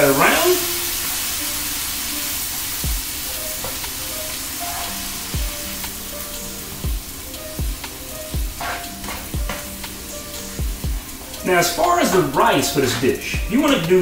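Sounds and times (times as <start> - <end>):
food sizzling in a frying pan: 0.0 - 14.0
utensil stirring food: 0.6 - 13.9.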